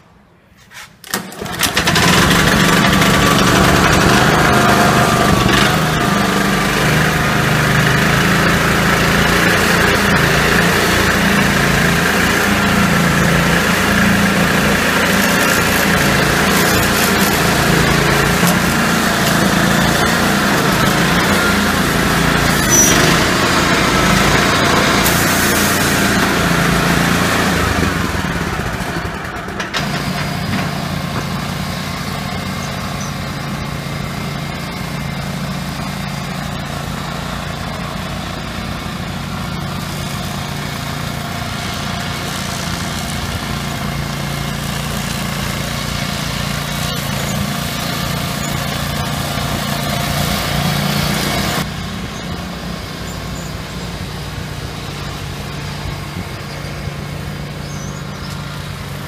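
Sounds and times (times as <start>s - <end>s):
brush cutter engine running: 1.0s - 59.0s.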